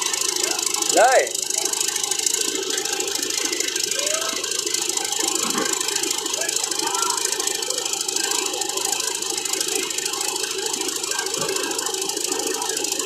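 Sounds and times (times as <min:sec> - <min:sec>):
diesel engine running: 0:00.0 - 0:13.0
light mechanical rattle: 0:00.0 - 0:13.0.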